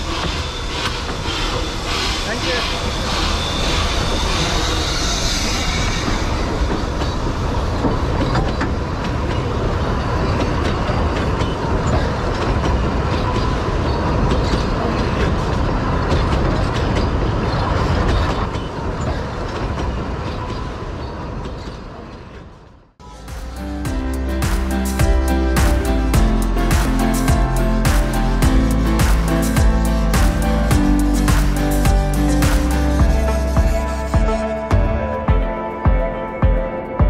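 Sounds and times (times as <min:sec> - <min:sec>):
train carriages rumbling past: 0:00.0 - 0:35.1.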